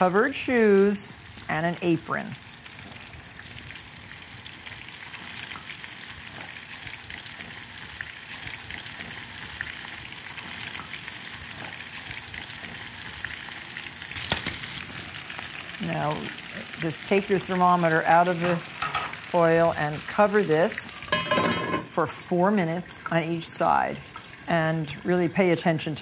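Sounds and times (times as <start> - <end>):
chicken sizzling in oil: 0.0 - 26.0.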